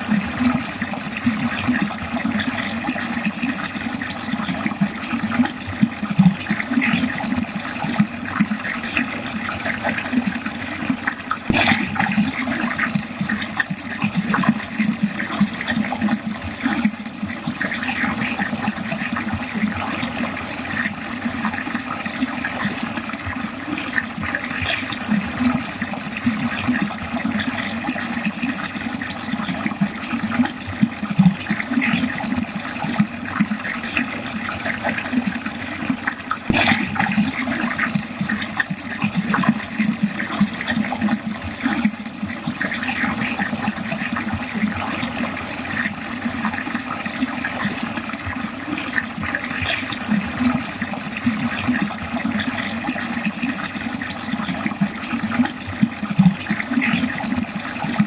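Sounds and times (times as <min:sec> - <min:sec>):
water running down a drain: 0:00.0 - 0:58.0.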